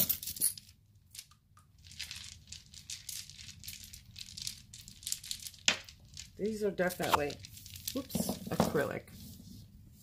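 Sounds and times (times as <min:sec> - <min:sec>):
jewelry crinkling and clicking: 0:00.0 - 0:08.9.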